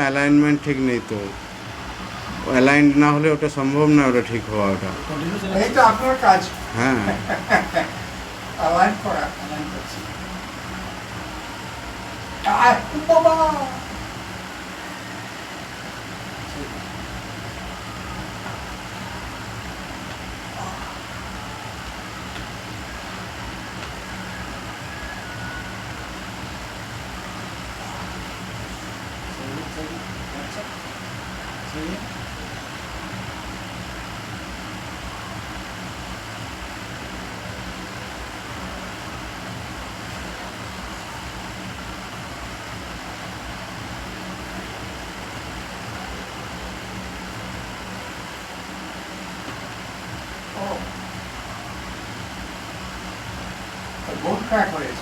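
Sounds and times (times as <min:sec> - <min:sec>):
machine hum and hiss: 0:00.0 - 0:55.0.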